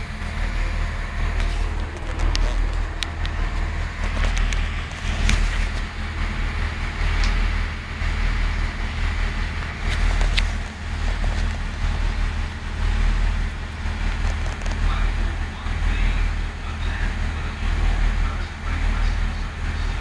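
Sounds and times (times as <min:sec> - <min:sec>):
passenger train rumble: 0:00.0 - 0:20.0.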